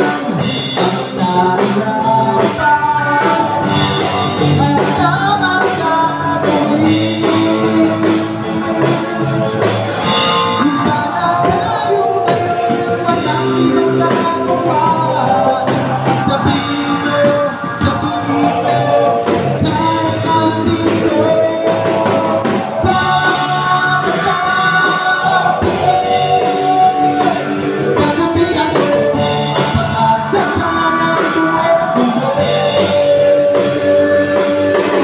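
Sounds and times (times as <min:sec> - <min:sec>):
live rock band playing: 0:00.0 - 0:35.0
man singing: 0:00.0 - 0:35.0.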